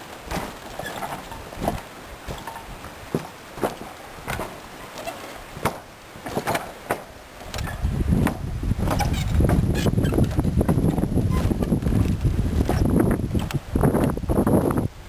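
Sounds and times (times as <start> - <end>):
footsteps on wooden planks: 0.1 - 14.2.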